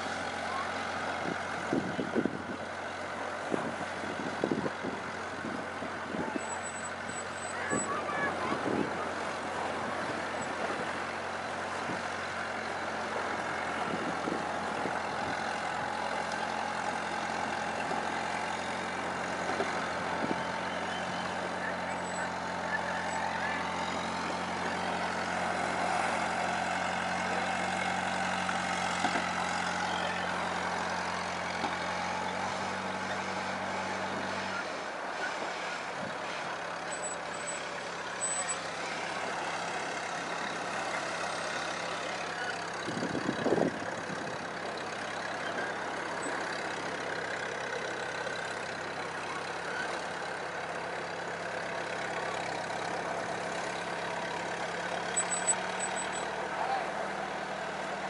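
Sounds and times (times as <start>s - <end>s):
loader engine humming: 0.0s - 58.0s.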